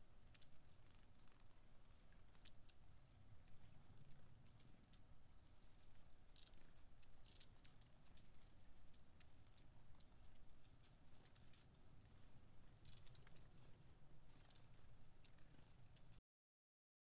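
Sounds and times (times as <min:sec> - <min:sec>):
thin high bird calls: 0:00.0 - 0:05.2, 0:06.2 - 0:16.2.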